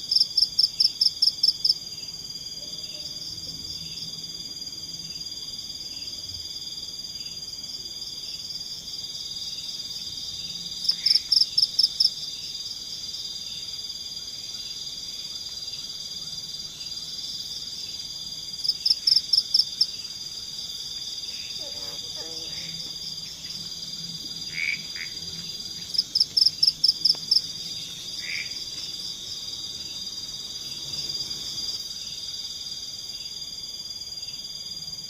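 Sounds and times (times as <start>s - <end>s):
insects and frogs droning: 0.0s - 35.0s.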